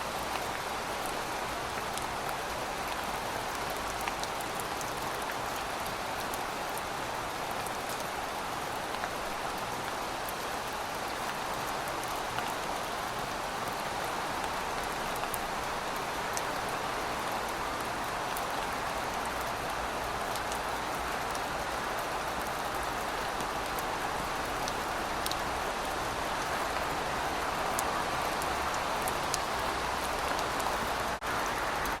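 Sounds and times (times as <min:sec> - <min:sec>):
rain on pavement: 0:00.0 - 0:32.0.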